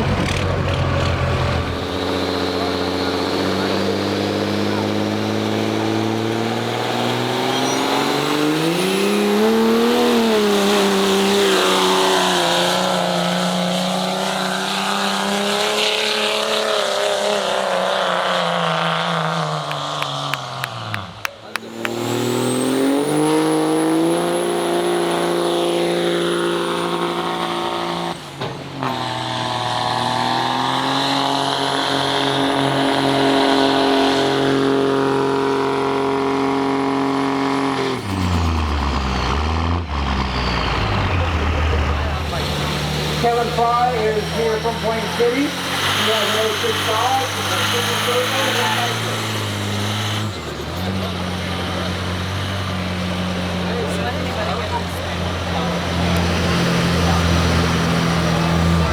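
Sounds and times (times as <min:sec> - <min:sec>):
engine revving at high power: 0:00.0 - 0:58.9.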